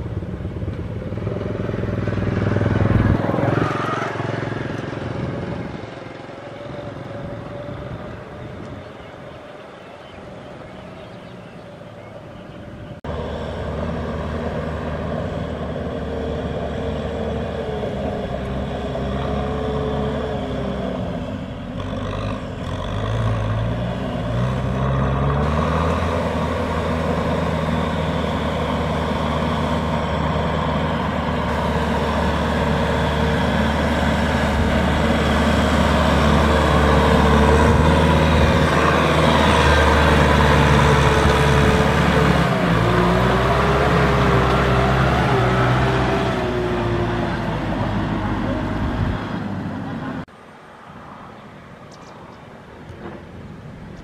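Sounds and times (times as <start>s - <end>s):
combine harvester running: 0.0s - 50.3s.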